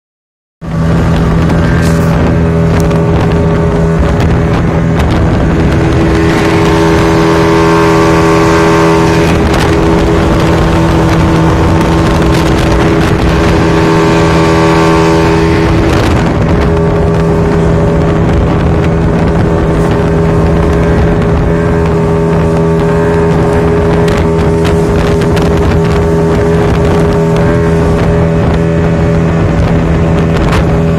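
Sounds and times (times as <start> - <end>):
speedboat engine droning: 0.6 - 30.9
wind rushing: 0.6 - 30.9.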